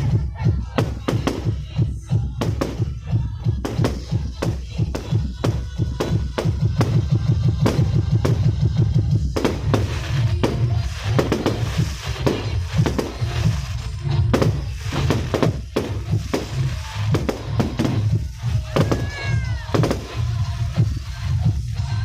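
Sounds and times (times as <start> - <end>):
crackling hiss of fireworks: 0.0 - 22.0
fireworks bangs: 0.0 - 22.0
loud music with pulsing bass: 0.0 - 22.0.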